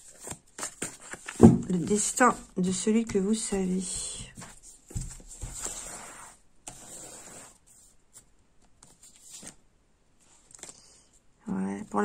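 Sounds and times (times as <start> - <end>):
cards rustling and sliding: 0.0 - 9.6, 10.4 - 11.0.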